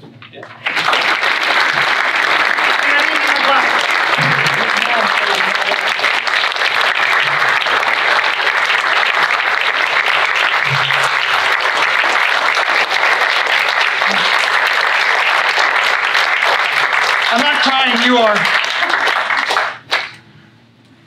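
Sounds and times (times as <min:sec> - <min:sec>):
audience clapping: 0:00.3 - 0:20.2.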